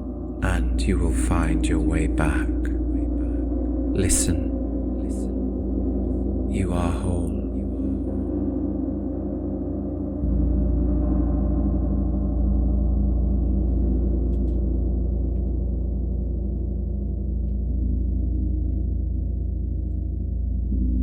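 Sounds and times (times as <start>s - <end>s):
gong ringing drone: 0.0s - 21.0s.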